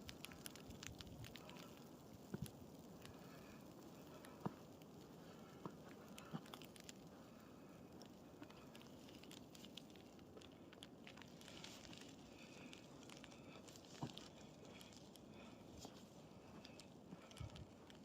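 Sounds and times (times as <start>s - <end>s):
light ticks pattering: 0.0s - 18.0s.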